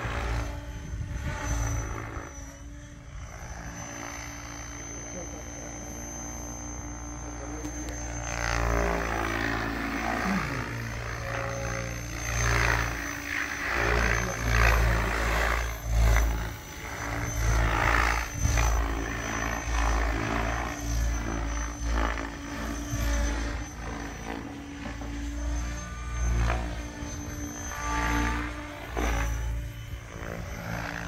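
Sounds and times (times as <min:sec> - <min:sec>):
rc helicopter rotor blades swishing: 0:00.0 - 0:31.0.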